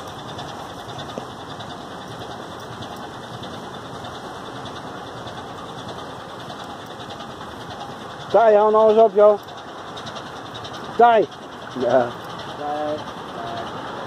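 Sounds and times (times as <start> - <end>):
outdoor hiss and rumble: 0.0 - 14.0.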